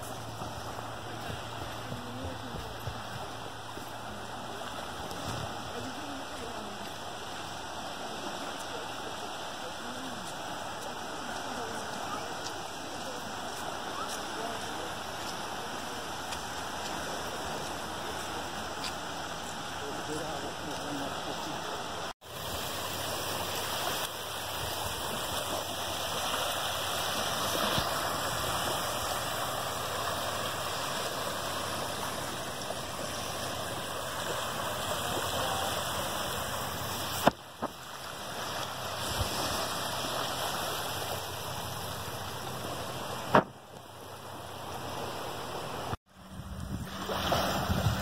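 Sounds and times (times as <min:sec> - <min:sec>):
small waves lapping: 0:00.0 - 0:48.0.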